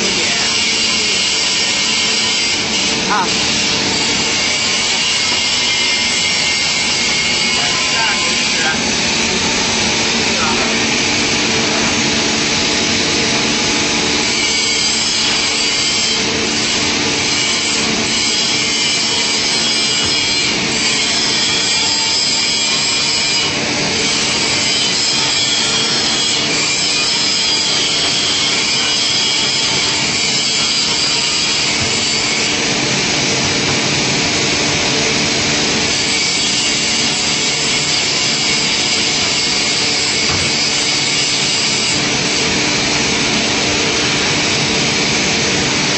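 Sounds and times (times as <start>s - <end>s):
woodworking machine cutting wood: 0.0s - 45.9s.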